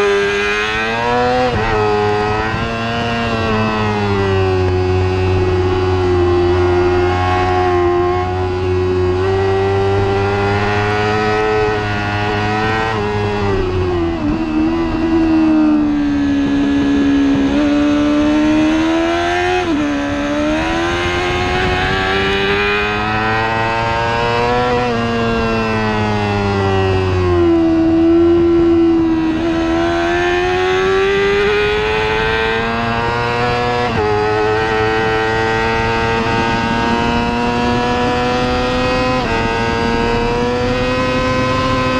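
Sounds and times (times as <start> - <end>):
racing motorcycle engine: 0.0 - 41.9
rushing wind: 0.0 - 41.9.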